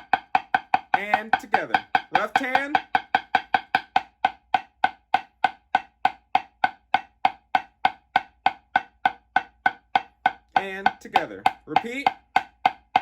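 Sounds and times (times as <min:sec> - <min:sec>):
drumstick strokes: 0:00.0 - 0:13.0.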